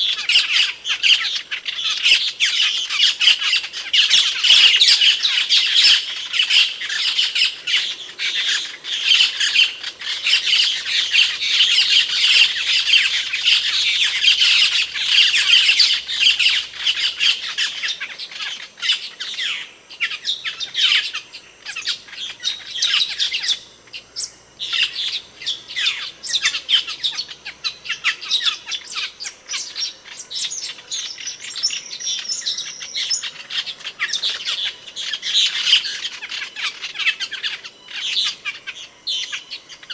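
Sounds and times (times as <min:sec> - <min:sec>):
starlings calling: 0:00.0 - 0:39.9.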